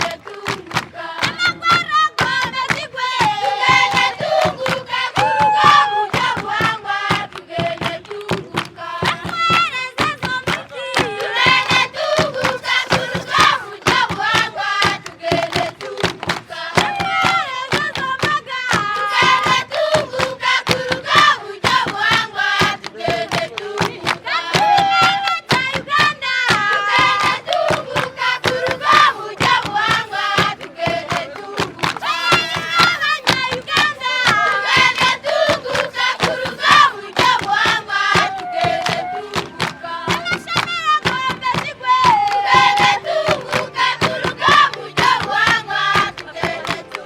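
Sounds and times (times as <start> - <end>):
group singing together: 0.0 - 47.0
rhythmic hand clapping: 0.0 - 47.0.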